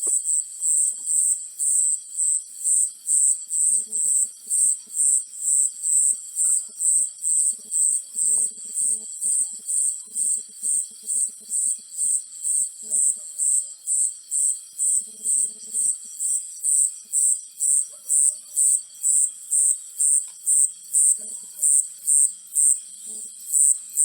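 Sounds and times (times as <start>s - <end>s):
cricket chirping: 0.0s - 24.0s.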